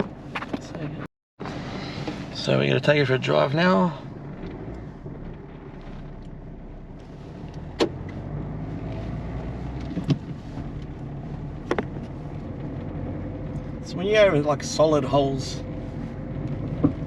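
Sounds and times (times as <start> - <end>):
suspension clunks: 0.0 - 14.8, 15.6 - 17.0
road and engine drone: 0.0 - 17.0.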